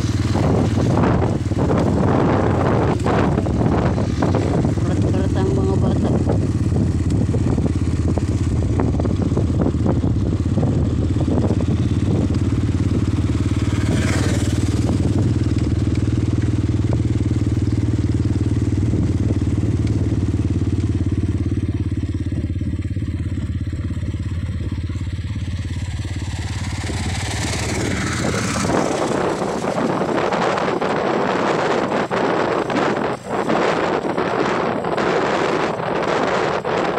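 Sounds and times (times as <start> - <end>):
motorcycle engine humming: 0.0 - 36.9
wind rushing over microphone: 0.0 - 36.9.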